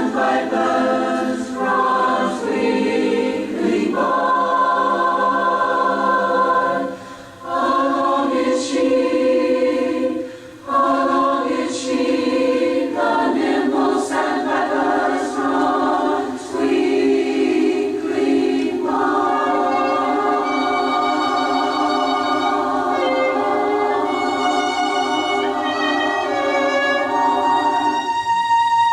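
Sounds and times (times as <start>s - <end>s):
choir singing sustained chords: 0.0s - 28.9s.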